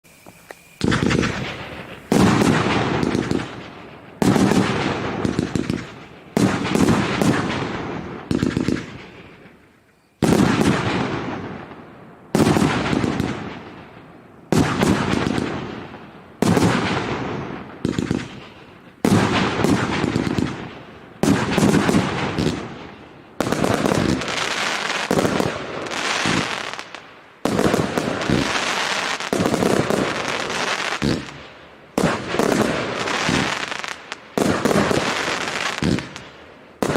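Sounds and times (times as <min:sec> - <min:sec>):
firework cake firing bangs: 0:00.4 - 0:09.6, 0:10.2 - 0:11.7, 0:12.3 - 0:13.8, 0:14.5 - 0:36.9.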